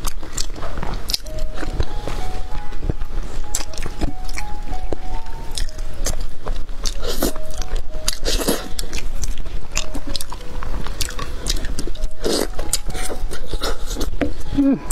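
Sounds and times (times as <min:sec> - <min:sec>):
person chewing and sucking meat: 0:00.0 - 0:14.9.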